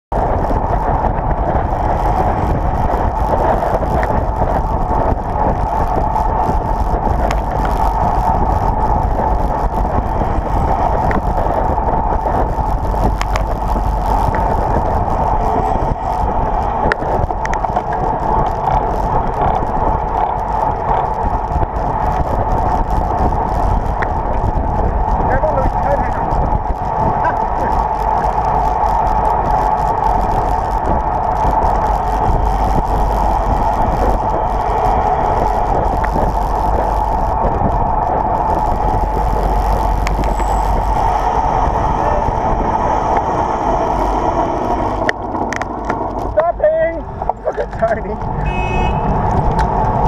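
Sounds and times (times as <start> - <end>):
road rush: 0.0 - 50.0
wind on microphone: 0.1 - 50.0
sharp ticks: 0.2 - 50.0.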